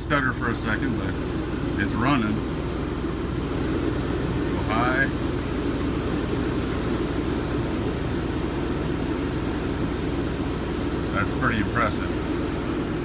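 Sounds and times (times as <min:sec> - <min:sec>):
air conditioner droning: 0:00.0 - 0:13.0.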